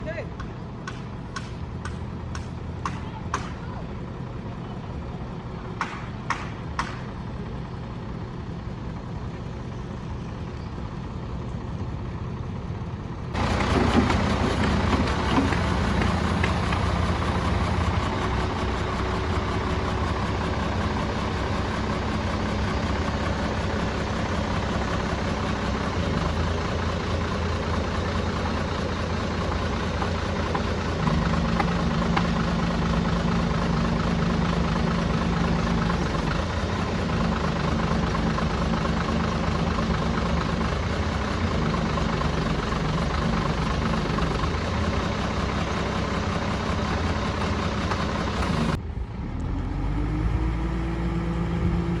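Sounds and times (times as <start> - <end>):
heavy vehicle engine running: 0.0 - 52.0.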